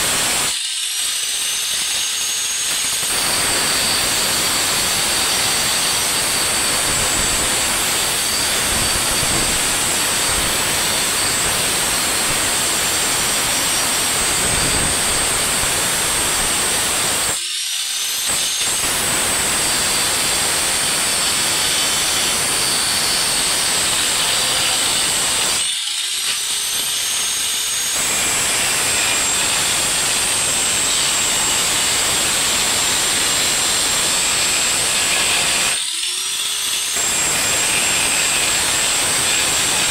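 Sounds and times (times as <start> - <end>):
power tool whining and grinding: 0.0 - 39.9.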